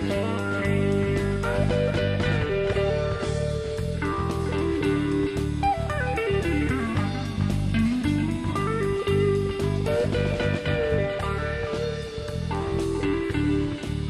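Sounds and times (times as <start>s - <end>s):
country rock band music: 0.0s - 14.0s.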